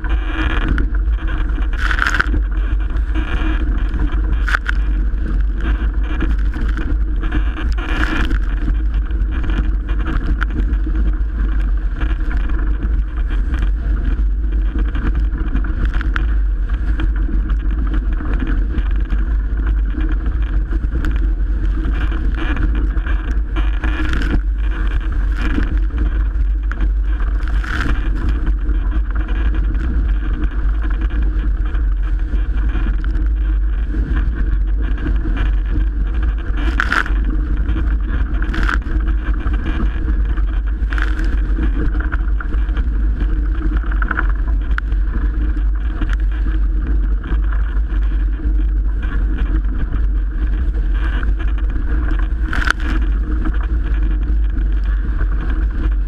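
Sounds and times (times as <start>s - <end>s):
water rushing along hull: 0.0s - 56.0s
wind buffeting microphone: 0.0s - 56.0s.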